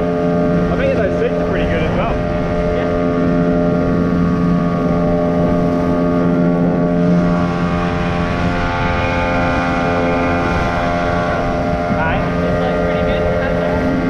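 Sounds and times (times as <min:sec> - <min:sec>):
outboard motor drone: 0:00.0 - 0:14.0
water rushing past hull: 0:00.0 - 0:14.0.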